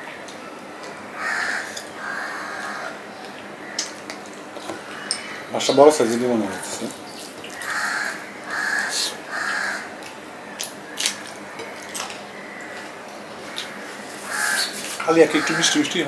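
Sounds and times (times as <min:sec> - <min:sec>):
crow cawing: 0:01.2 - 0:03.0, 0:03.6 - 0:04.0, 0:04.8 - 0:06.9, 0:07.5 - 0:16.0.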